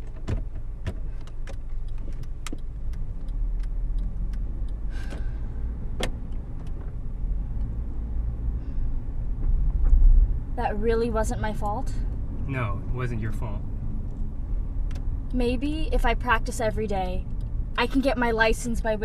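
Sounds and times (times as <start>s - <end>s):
car driving rumble from inside: 0.0s - 19.0s.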